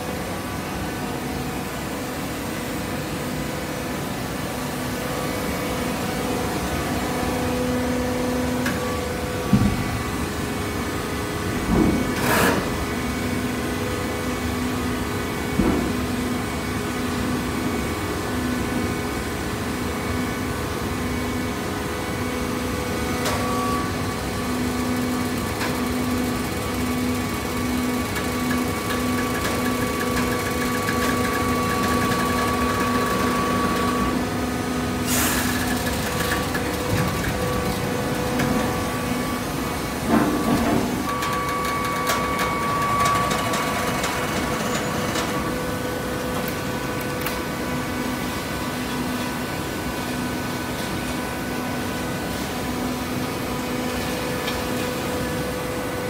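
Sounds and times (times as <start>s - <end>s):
baler machine hum and whine: 0.0s - 56.0s.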